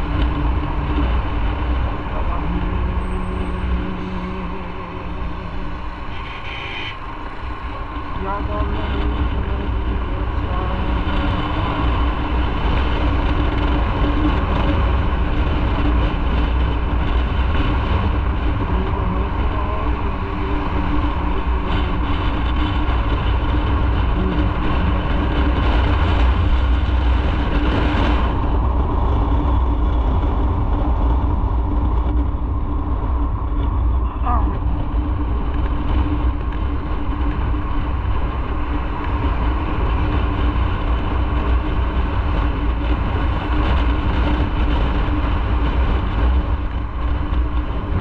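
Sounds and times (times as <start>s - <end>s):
motorcycle engine hum: 0.0s - 48.0s
wind rumble on microphone: 0.0s - 48.0s.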